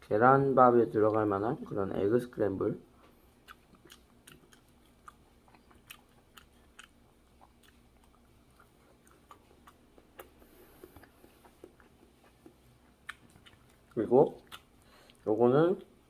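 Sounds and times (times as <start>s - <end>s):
faint chewing of food: 1.0s - 16.0s.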